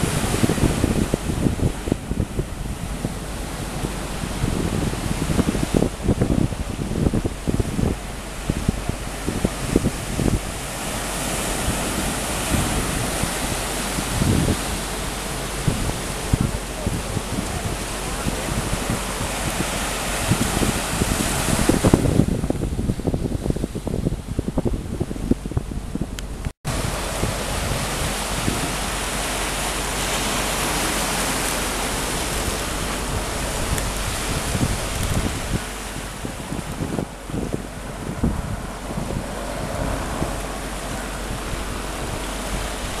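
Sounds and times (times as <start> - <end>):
low rumbling gusts: 0.0 - 43.0
wind buffeting microphone: 0.0 - 43.0.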